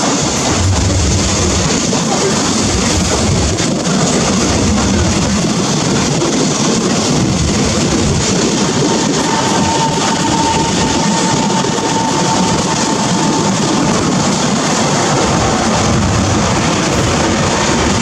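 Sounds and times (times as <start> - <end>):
train rumbling past on rails: 0.0 - 18.0.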